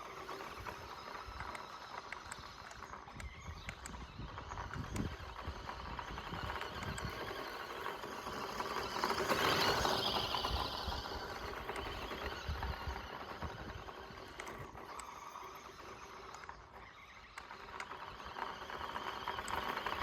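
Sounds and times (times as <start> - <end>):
small electric motor whirring: 0.0 - 20.0
tyres crackling on loose soil: 0.0 - 20.0.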